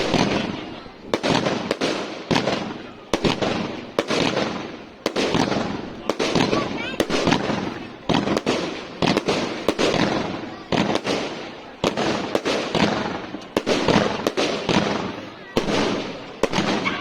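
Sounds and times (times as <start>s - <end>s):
fireworks bangs crackling: 0.0s - 17.0s.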